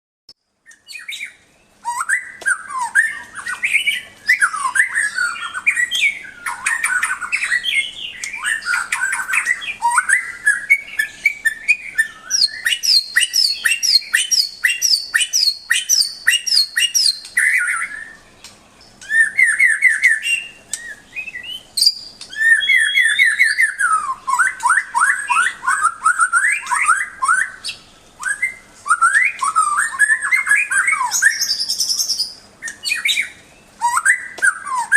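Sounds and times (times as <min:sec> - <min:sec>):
bird singing whistles: 0:00.7 - 0:18.4, 0:19.0 - 0:34.9.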